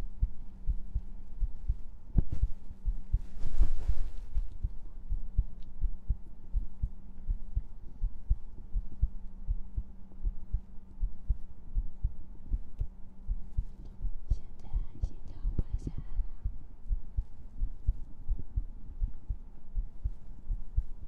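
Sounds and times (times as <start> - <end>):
faint steady hum: 0.0 - 21.0
heartbeat thumps: 0.0 - 21.0.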